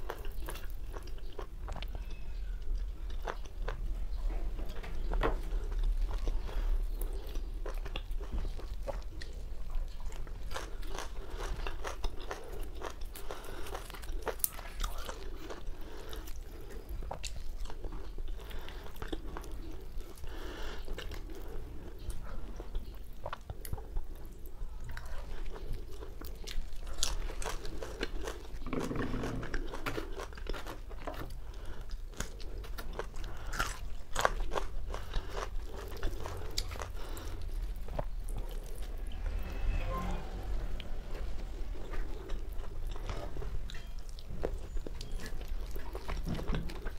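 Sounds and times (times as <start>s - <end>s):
chewing and crunching food: 0.0s - 39.4s, 40.8s - 46.9s.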